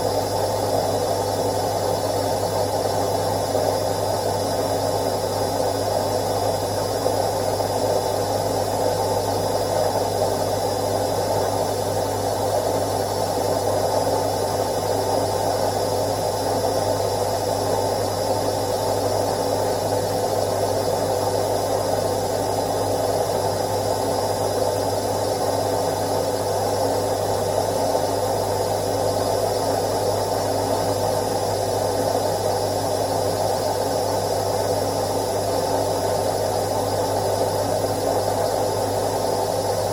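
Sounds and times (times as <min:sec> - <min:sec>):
washing machine whirring: 0:00.0 - 0:39.9.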